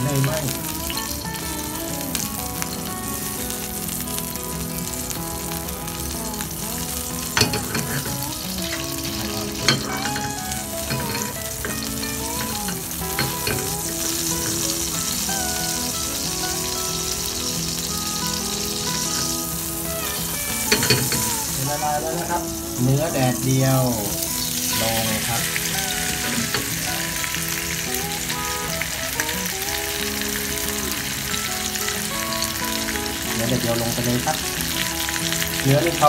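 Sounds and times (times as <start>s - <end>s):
butter sizzling in a frying pan: 0.0s - 36.0s.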